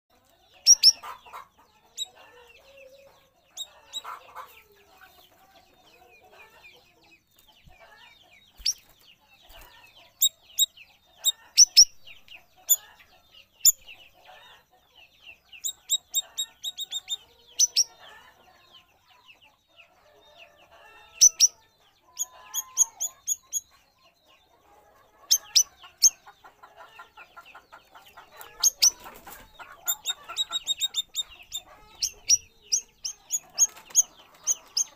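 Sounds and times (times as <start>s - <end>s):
faint bird twittering: 0.2s - 34.9s.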